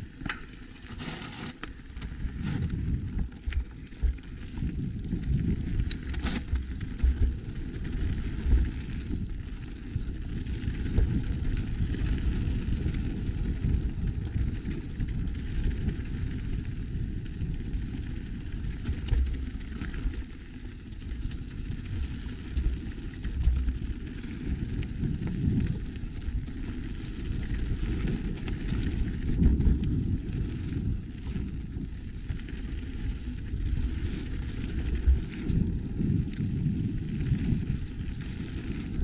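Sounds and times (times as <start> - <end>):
bike tyres rumbling over stones: 0.0 - 39.0.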